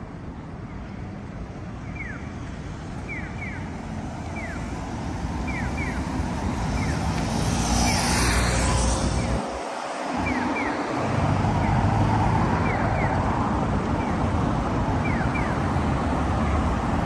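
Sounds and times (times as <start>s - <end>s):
vehicle rumble and tyre noise: 0.0s - 17.0s.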